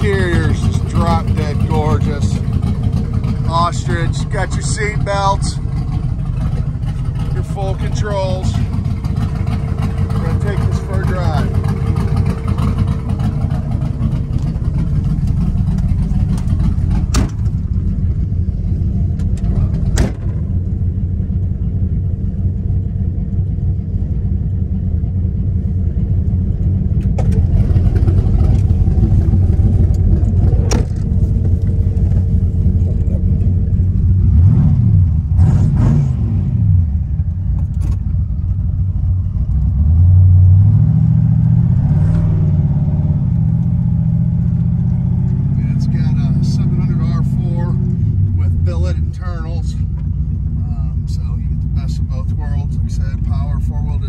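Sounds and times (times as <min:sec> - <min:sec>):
engine running and revving: 0:00.0 - 0:54.0.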